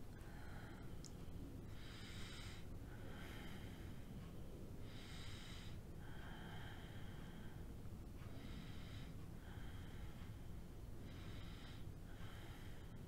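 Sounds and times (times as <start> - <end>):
faint low hum: 0.0 - 13.0
woman breathing slowly: 0.0 - 13.0.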